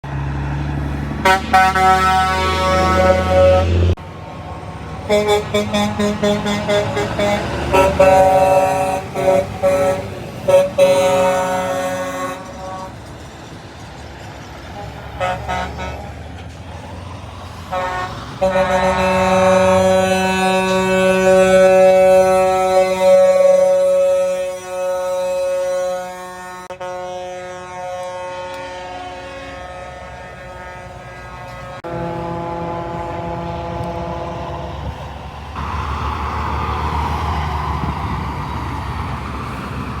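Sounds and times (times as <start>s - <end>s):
truck horns honking: 0.0s - 13.7s, 14.5s - 40.0s
low engine rumble: 0.0s - 40.0s.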